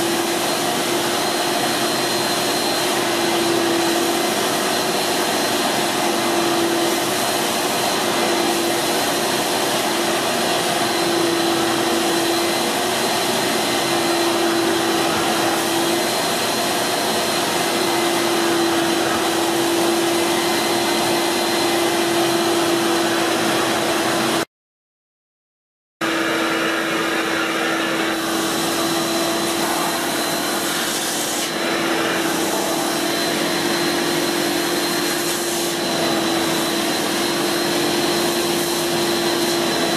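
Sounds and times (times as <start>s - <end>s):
carpet cleaner suction motor: 0.0s - 24.5s, 26.0s - 39.9s.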